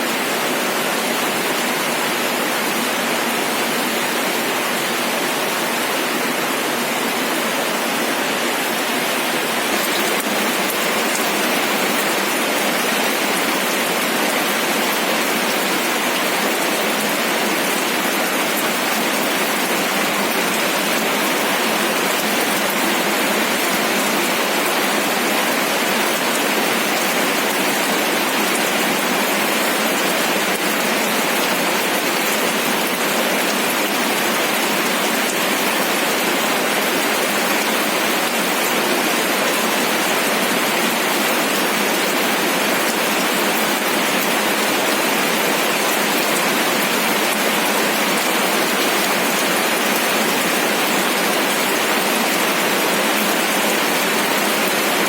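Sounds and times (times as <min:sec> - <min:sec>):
rain pattering on a surface: 0:09.5 - 0:55.0.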